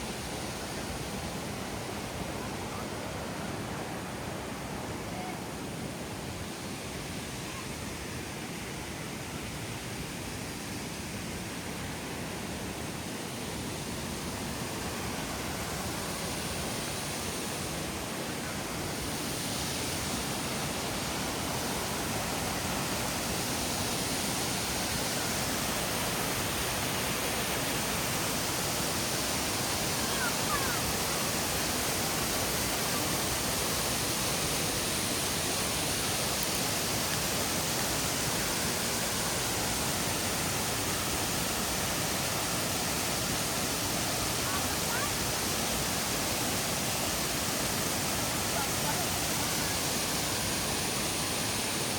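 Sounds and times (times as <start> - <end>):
waterfall rushing water: 0.0 - 51.9.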